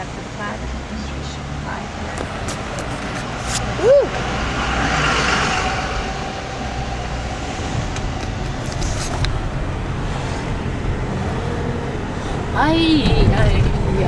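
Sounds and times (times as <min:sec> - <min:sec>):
road and engine noise in car: 0:00.0 - 0:14.0.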